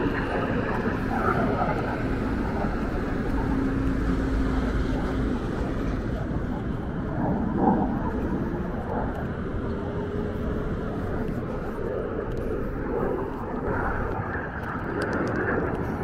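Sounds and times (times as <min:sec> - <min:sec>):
distant jet engine rushing: 0:00.0 - 0:16.0.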